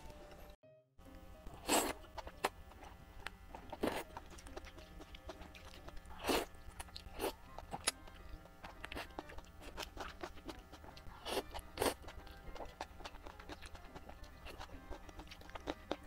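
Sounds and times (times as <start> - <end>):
soft background music: 0.0 - 16.0
noodle slurping and chewing: 1.6 - 16.0.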